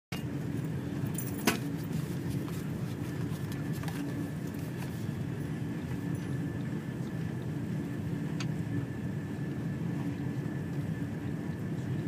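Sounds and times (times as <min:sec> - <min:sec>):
train rumble inside carriage: 0:00.1 - 0:12.0.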